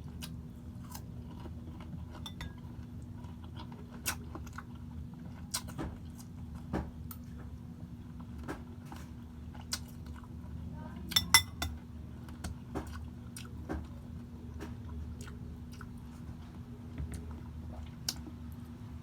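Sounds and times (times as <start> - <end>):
chewing and crunching food: 0.0 - 11.3, 12.1 - 18.8
steady low hum: 0.0 - 19.0.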